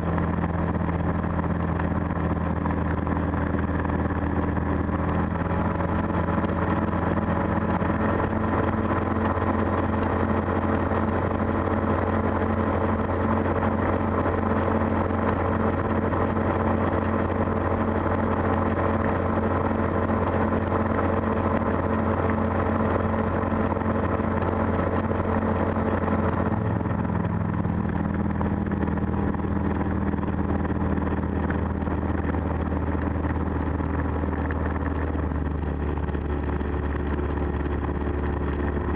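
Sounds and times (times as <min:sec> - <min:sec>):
aircraft engine idling drone: 0:00.0 - 0:38.9.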